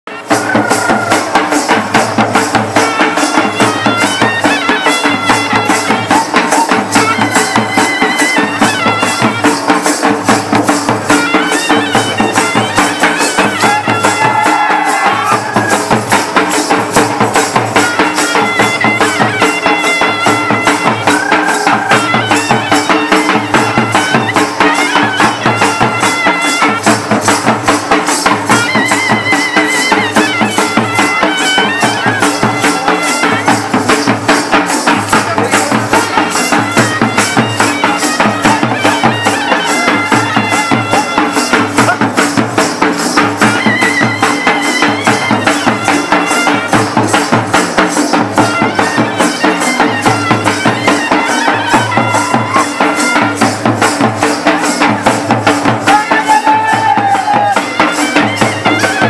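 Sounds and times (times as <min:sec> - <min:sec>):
barrel drums beating: 0:00.1 - 0:59.0
shrill wind instrument melody: 0:00.1 - 0:59.0.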